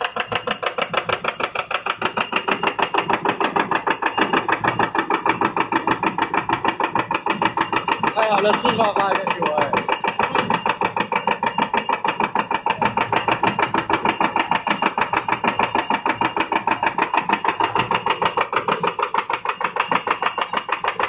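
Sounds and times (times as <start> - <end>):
punching machine clattering: 0.0 - 21.0.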